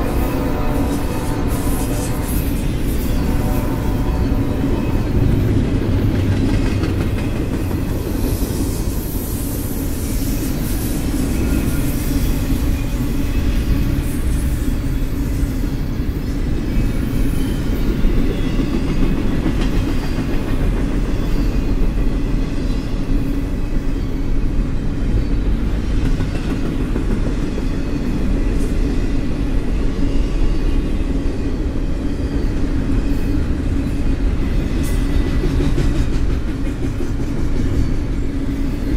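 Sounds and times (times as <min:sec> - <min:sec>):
train wheels rumbling: 0:00.0 - 0:38.9
clickety-clack over rail joints: 0:00.1 - 0:09.6, 0:11.1 - 0:30.4, 0:31.2 - 0:38.9.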